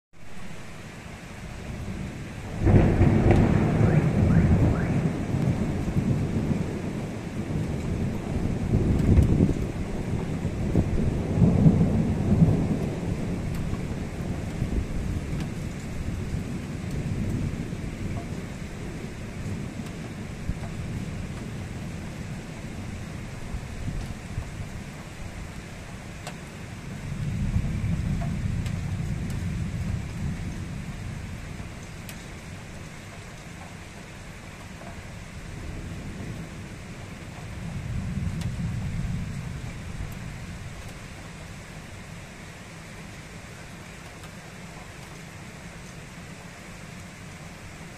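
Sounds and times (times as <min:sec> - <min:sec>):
rain hissing: 0:00.2 - 0:47.9
thunder clap and rumble: 0:01.5 - 0:42.2.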